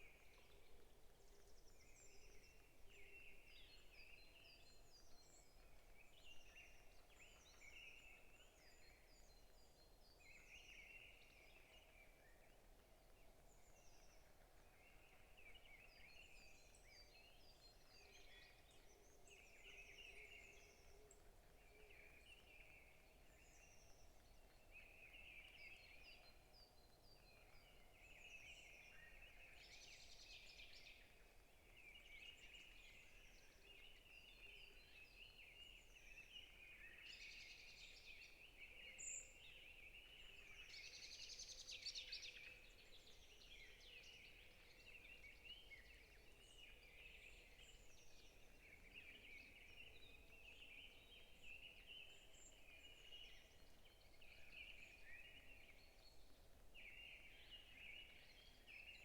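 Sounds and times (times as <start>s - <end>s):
low steady background hiss: 0.0s - 59.0s.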